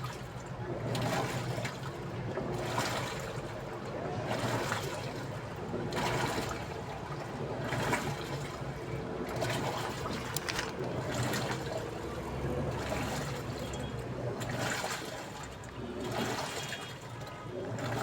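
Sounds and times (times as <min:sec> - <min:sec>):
water swishing in washing machine: 0:00.0 - 0:18.0
low motor hum: 0:00.6 - 0:16.6.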